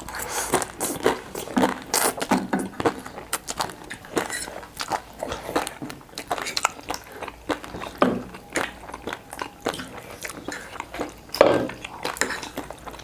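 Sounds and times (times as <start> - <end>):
chewing: 0.0 - 13.0.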